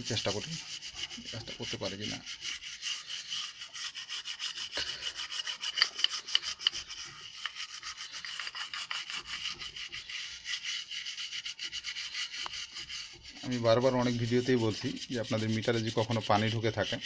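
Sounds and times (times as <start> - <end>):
brush scrubbing circuit board: 0.0 - 17.0.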